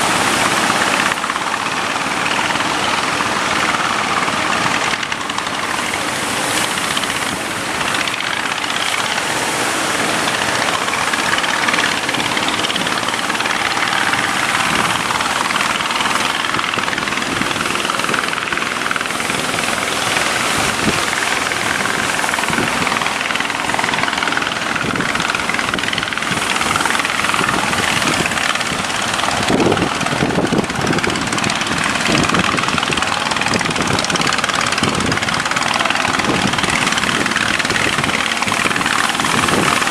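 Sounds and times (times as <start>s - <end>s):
boat engines running: 0.0s - 39.9s
waves rushing: 0.0s - 39.9s
wind noise: 0.0s - 39.9s.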